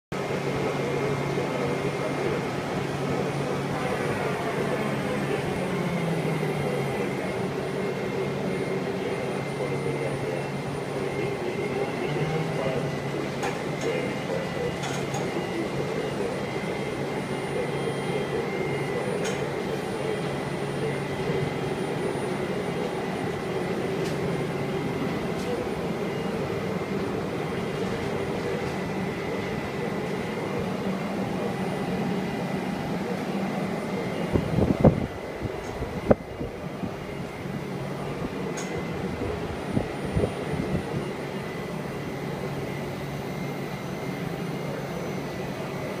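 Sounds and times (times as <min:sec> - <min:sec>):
heavy machinery humming: 0:00.1 - 0:46.0
faint high whine: 0:00.2 - 0:46.0.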